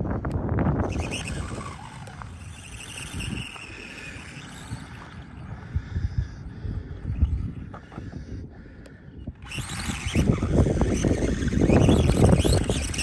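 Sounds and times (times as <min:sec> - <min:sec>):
wind buffeting microphone: 0:00.0 - 0:13.0
electric motor high whine: 0:00.6 - 0:08.0, 0:08.8 - 0:13.0.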